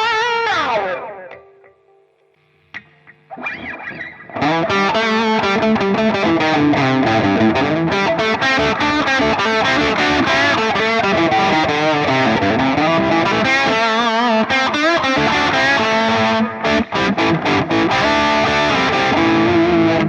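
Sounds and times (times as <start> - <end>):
overdriven electric guitar lead: 0.0 - 20.0.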